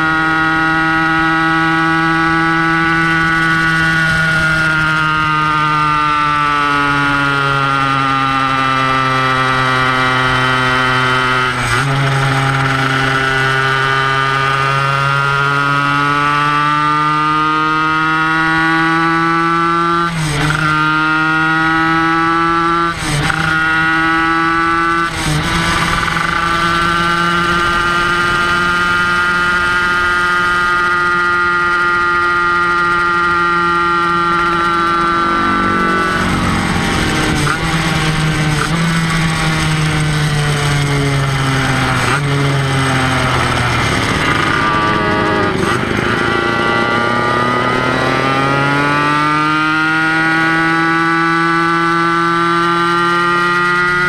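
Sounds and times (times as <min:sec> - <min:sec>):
racing motorcycle engine high revs: 0:00.0 - 0:54.0.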